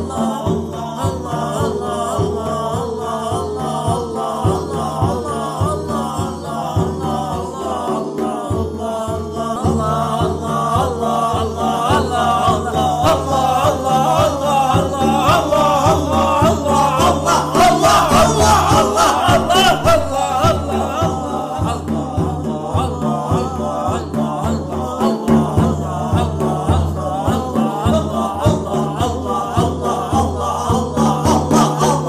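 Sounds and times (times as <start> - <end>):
group of voices chanting: 0.0 - 32.0.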